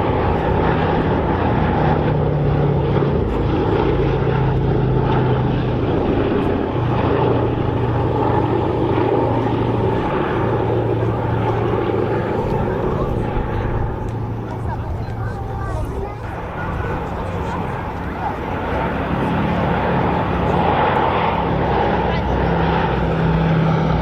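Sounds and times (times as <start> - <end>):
propeller plane engines humming: 0.0 - 24.0.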